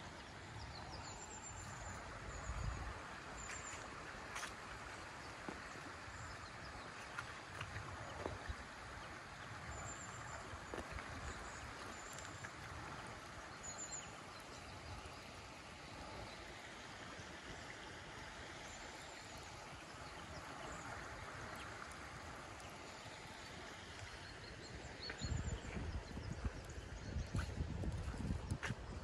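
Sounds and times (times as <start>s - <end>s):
river running over gravel: 0.0s - 29.0s.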